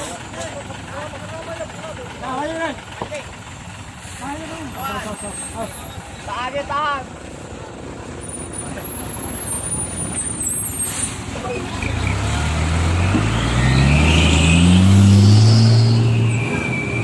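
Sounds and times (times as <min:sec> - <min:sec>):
truck engine with loud exhaust: 0:00.0 - 0:17.0.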